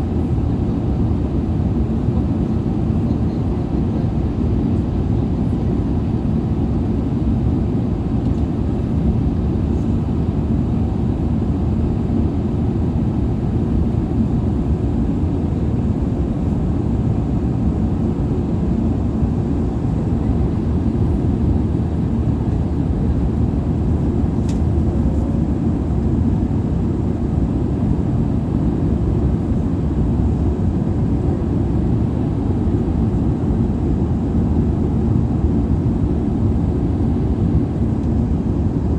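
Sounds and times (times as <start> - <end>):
airliner engines rumbling: 0.0 - 38.9.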